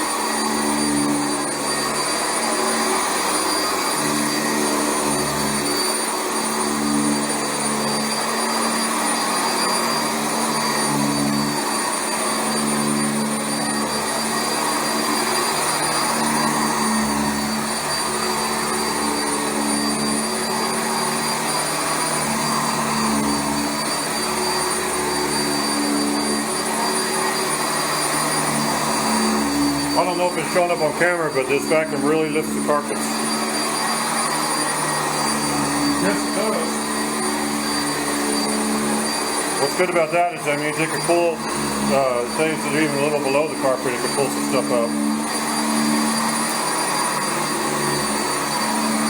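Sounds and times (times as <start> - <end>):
upright vacuum cleaner running: 0.0 - 49.0.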